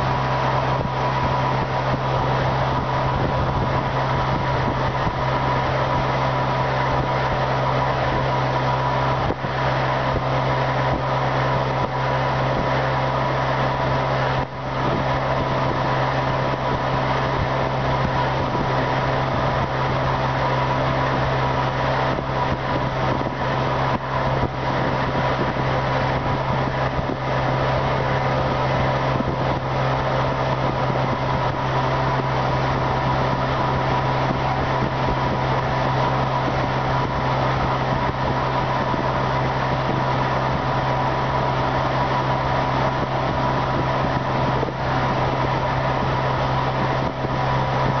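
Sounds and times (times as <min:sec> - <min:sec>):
outboard motor droning: 0:00.0 - 0:48.0.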